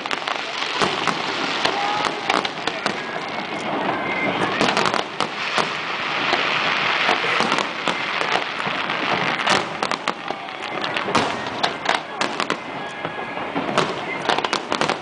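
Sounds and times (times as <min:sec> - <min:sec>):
fireworks crackling and popping: 0:00.0 - 0:15.0
loud firework bangs: 0:00.0 - 0:15.0.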